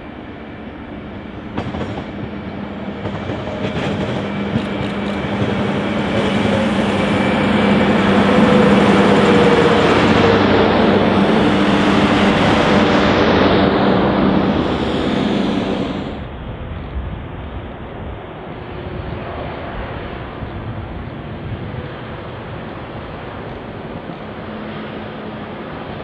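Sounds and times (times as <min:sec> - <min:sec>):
diesel train engine hum: 0:00.0 - 0:26.0.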